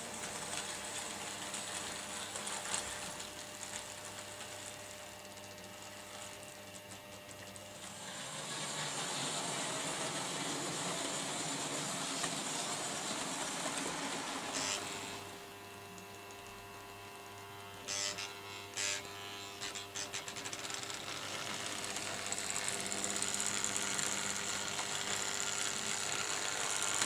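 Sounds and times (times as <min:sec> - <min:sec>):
model train motor whirring: 0:00.0 - 0:04.8, 0:07.7 - 0:15.4, 0:17.4 - 0:27.0.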